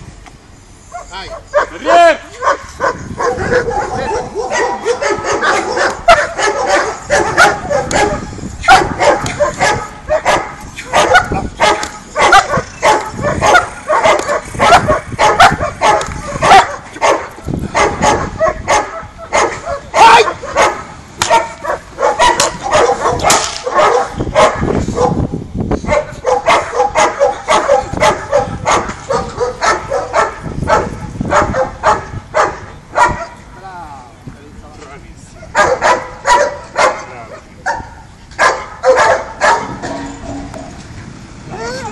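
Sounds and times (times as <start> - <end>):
dog barking rapidly: 0.9 - 25.2, 25.8 - 33.4, 35.4 - 40.0.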